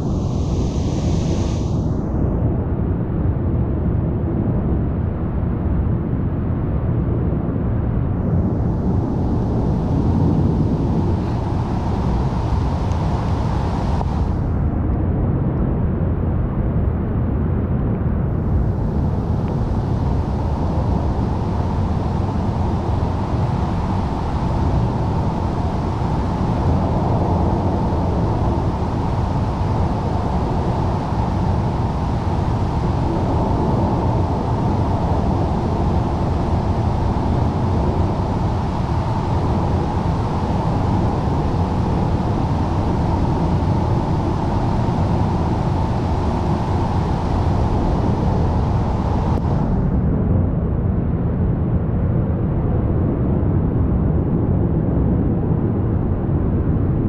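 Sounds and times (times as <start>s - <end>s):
storm wind roaring: 0.0s - 5.6s, 6.2s - 57.0s.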